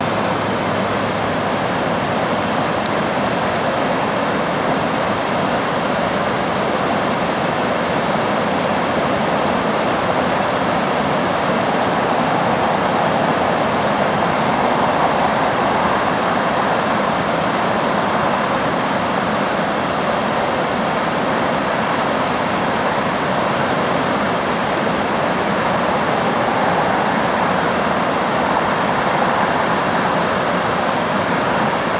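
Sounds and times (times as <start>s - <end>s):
water rushing through floodgates: 0.0s - 31.9s.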